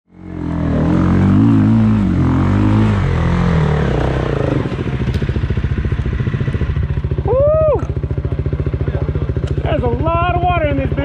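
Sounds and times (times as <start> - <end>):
dirt bike engine revving: 0.2 - 11.0.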